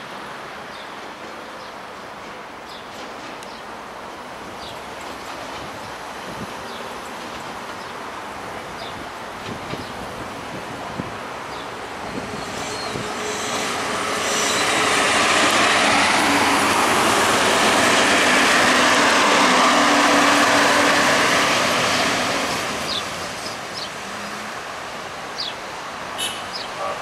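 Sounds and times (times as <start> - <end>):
train wheels on rails: 1.0 - 26.6
diesel train engine hum: 3.0 - 26.1.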